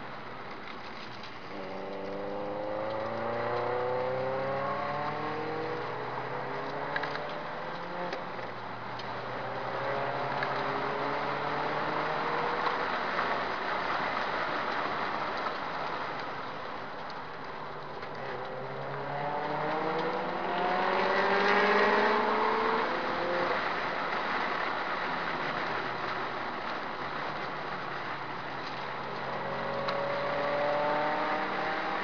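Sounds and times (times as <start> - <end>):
wind and tyre noise: 0.0 - 32.0
car engine accelerating: 1.4 - 16.4, 17.5 - 32.0.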